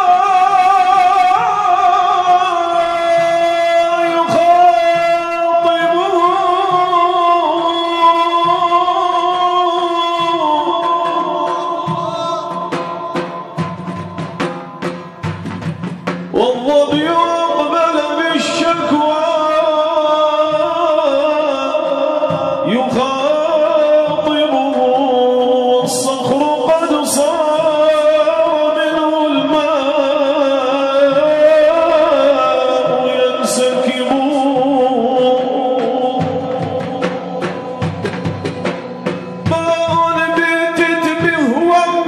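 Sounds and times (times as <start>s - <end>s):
man singing unaccompanied: 0.0s - 15.1s, 16.3s - 42.0s
drum strokes: 0.0s - 42.0s.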